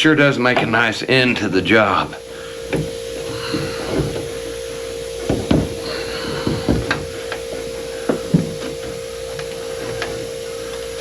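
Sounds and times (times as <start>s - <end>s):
steady hum: 0.0s - 11.0s
light knocks and rubbing: 0.5s - 11.0s.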